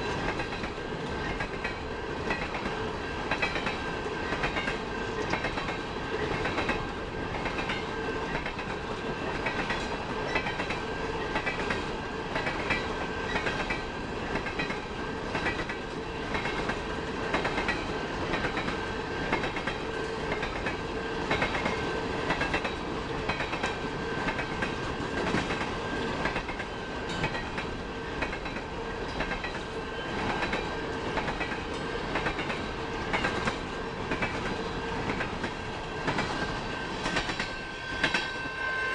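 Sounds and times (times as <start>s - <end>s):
train wheels clicking over rail joints: 0.0s - 38.4s
thin tones from train wheels: 0.0s - 38.9s.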